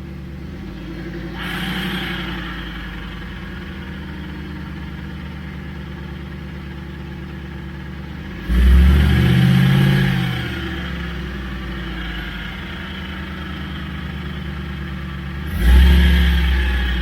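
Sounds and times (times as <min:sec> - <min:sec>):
engine running and revving: 0:00.0 - 0:06.4, 0:08.0 - 0:17.0.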